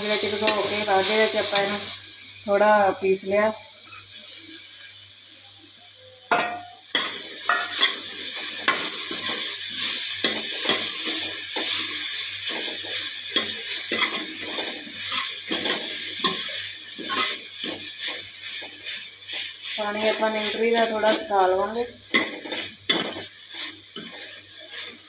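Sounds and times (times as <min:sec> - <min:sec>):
food sizzling: 0:00.0 - 0:25.0.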